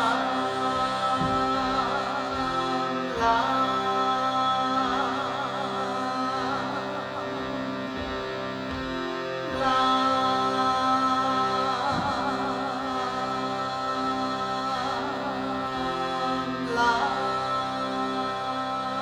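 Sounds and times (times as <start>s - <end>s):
meditative drone and melody: 0.0s - 19.0s.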